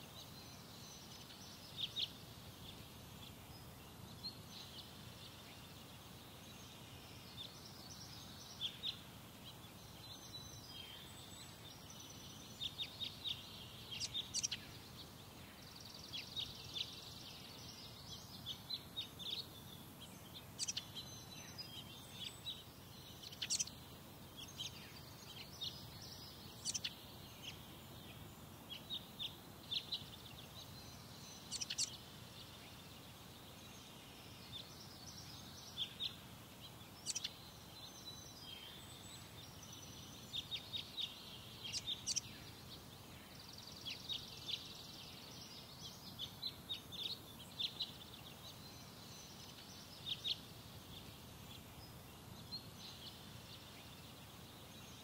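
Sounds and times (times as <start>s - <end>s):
birds chirping: 0.0s - 55.0s
faint steady background noise: 0.0s - 55.0s.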